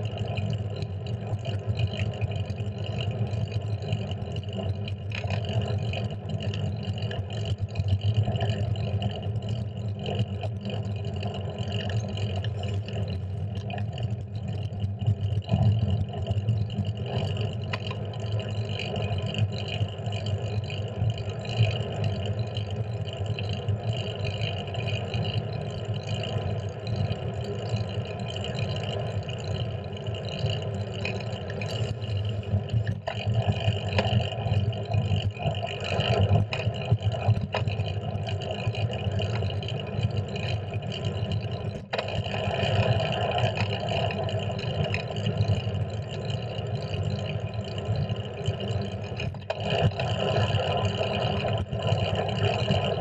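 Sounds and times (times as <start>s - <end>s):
bicycle road rumble: 0.0s - 53.0s.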